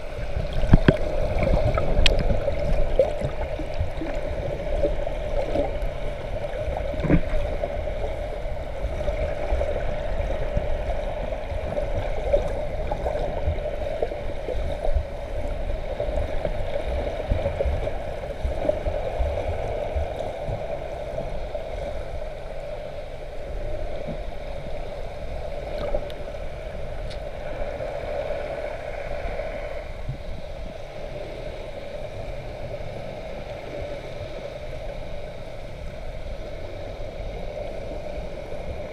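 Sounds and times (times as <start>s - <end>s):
churning water and bubbles underwater: 0.0s - 38.9s.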